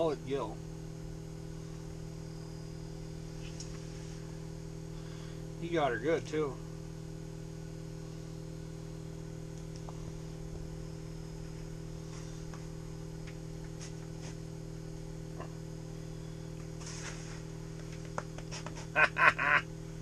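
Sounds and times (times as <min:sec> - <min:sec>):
low hum with even tones: 0:00.0 - 0:20.0.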